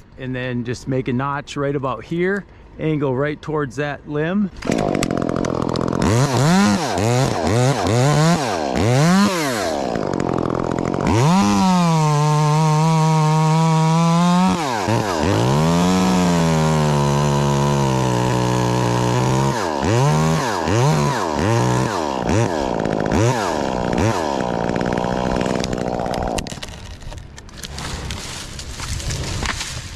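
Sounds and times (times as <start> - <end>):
chainsaw cutting into wood: 4.6 - 29.9.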